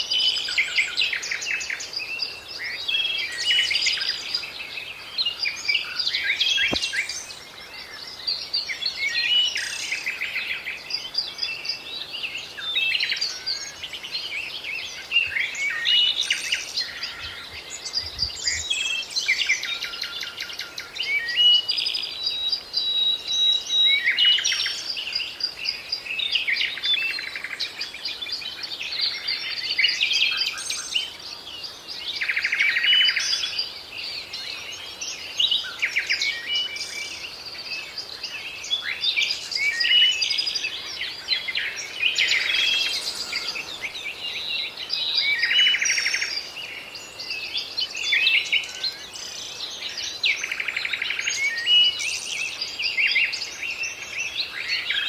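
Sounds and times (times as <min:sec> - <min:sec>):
birds singing: 0:00.0 - 0:55.0.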